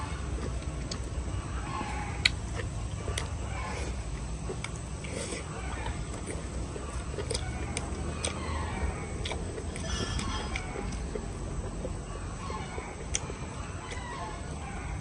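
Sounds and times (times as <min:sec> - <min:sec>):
chickens clucking: 0:00.0 - 0:15.0
man chewing crispy food: 0:00.0 - 0:15.0.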